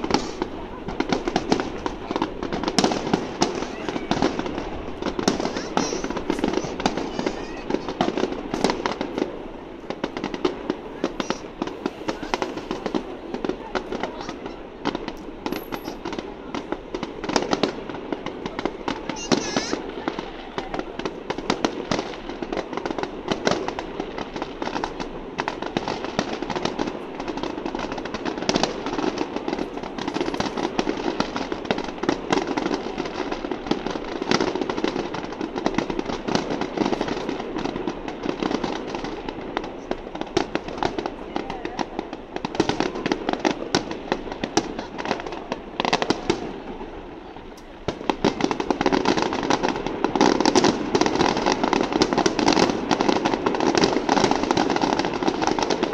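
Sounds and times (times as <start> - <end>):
fireworks bursting and crackling: 0.0 - 55.9
people's voices: 0.0 - 55.9.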